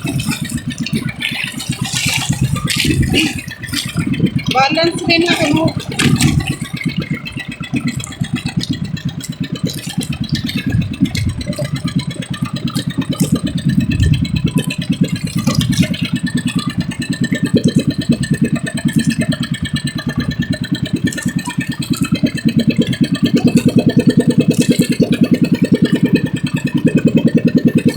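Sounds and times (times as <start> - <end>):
boat engine chugging: 0.0 - 27.9.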